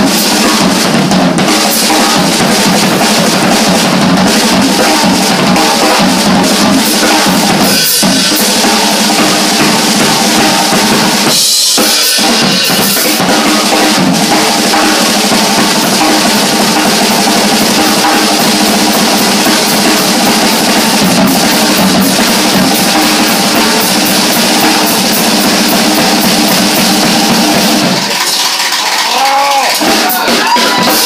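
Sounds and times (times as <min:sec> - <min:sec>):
band backing: 0:00.0 - 0:31.0
jazz drum kit playing: 0:00.0 - 0:31.0.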